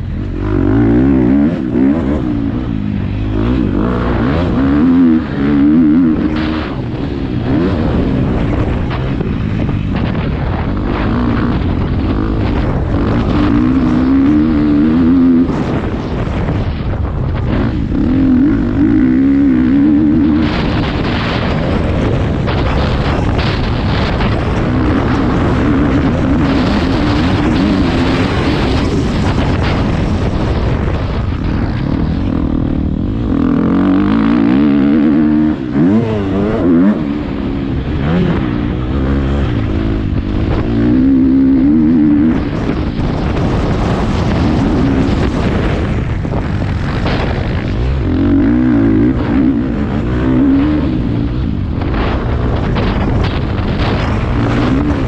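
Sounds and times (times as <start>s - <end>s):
motorbike engine revving: 0.0s - 55.0s
wind rushing over microphone: 0.0s - 55.0s.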